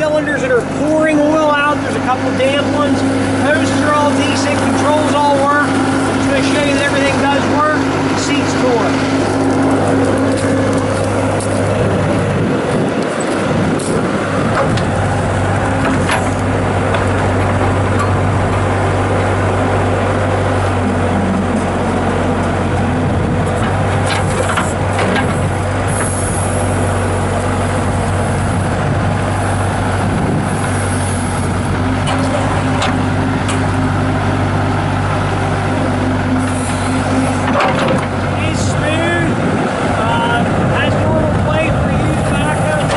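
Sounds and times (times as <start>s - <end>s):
diesel engine running: 0.0s - 42.9s
hydraulic backhoe working: 0.0s - 42.9s.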